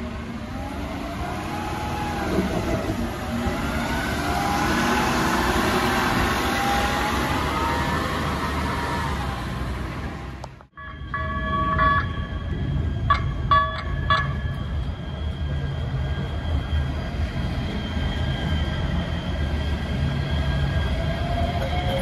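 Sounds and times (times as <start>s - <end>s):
train high whine: 0.0s - 22.0s
train rumbling past: 0.0s - 22.0s.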